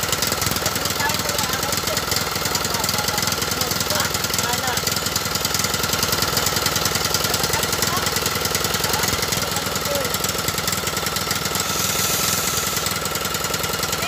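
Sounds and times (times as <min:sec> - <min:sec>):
small engine idling: 0:00.0 - 0:14.0.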